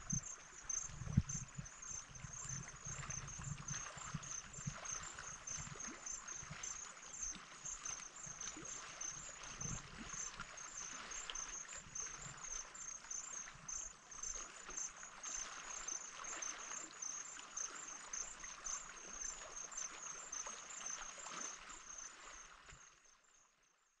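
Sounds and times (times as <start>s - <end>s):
insect chirping: 0.0s - 23.9s
small waves lapping on rocks: 0.2s - 22.8s.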